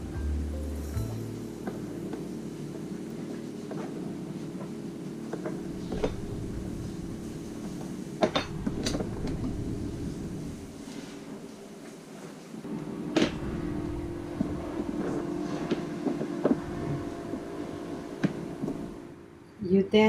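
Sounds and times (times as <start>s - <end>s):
steady low hum: 0.0s - 11.8s, 12.6s - 20.0s.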